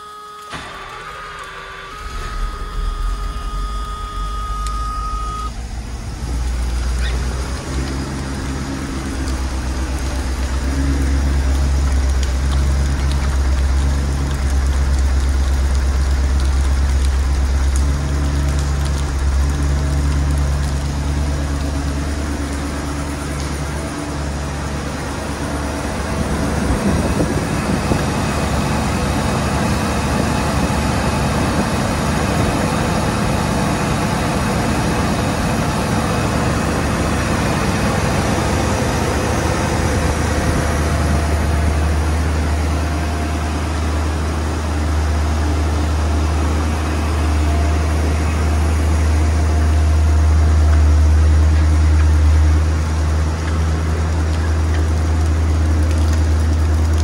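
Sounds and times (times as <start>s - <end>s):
car engine idling: 0.5s - 57.0s.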